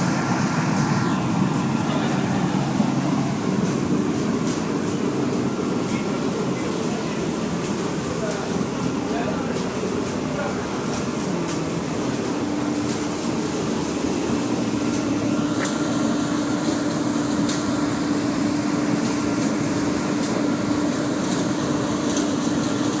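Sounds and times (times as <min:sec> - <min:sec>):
blower and flame roaring: 0:00.0 - 0:23.0.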